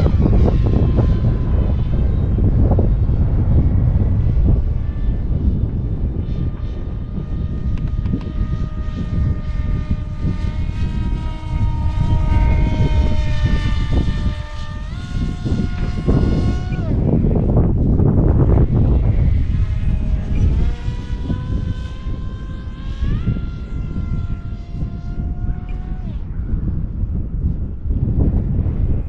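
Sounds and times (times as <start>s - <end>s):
electric motor and propeller whining: 0.0s - 29.0s
wind rumble on microphone: 0.0s - 29.0s.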